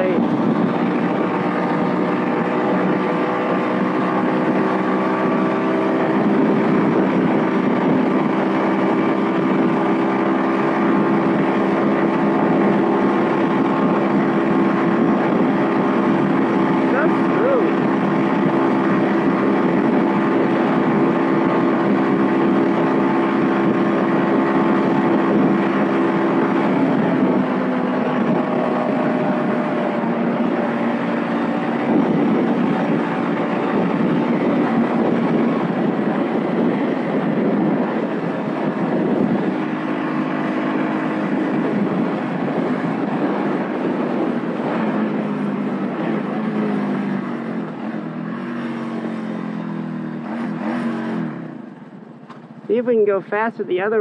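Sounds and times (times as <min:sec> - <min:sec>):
wind noise: 0:00.0 - 0:51.7
motorcycle engine running: 0:00.0 - 0:54.0
road noise: 0:00.0 - 0:54.0.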